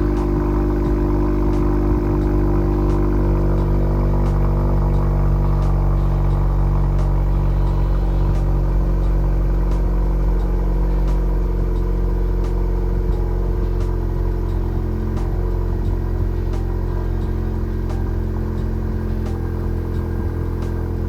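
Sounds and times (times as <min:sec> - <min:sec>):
car engine fast idling: 0:00.0 - 0:21.0.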